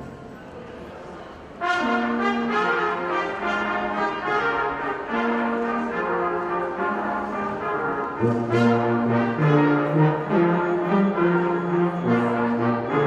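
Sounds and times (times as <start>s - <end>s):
brass ensemble playing chords: 1.6s - 13.0s.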